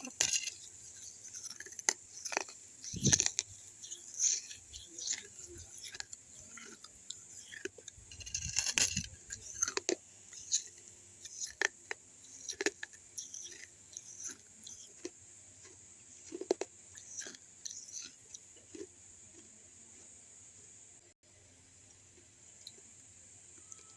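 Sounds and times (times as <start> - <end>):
clay cup pieces being chewed: 0.0 - 20.2, 21.8 - 23.9.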